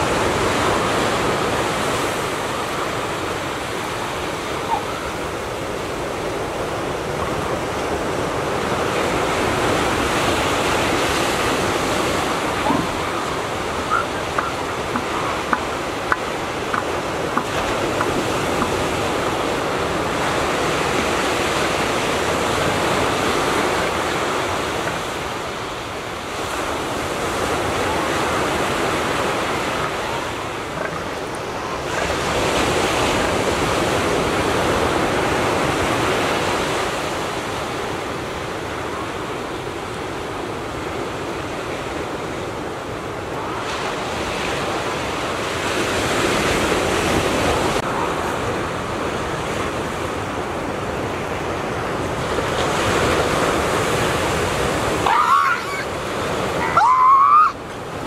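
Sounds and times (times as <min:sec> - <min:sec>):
surf washing onto shore: 0:00.0 - 0:58.0.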